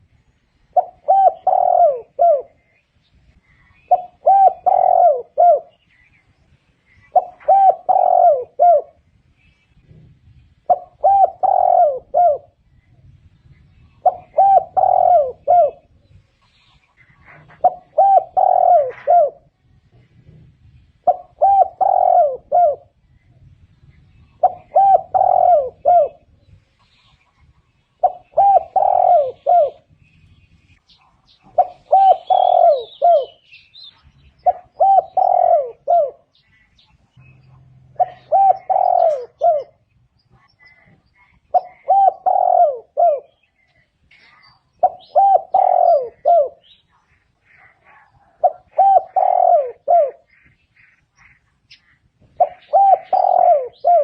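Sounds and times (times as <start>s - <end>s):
dove cooing: 0.0s - 2.8s, 3.4s - 6.2s, 6.9s - 9.1s, 9.8s - 12.8s, 13.7s - 16.2s, 16.9s - 26.6s, 27.8s - 30.0s, 31.0s - 51.4s, 52.2s - 54.0s.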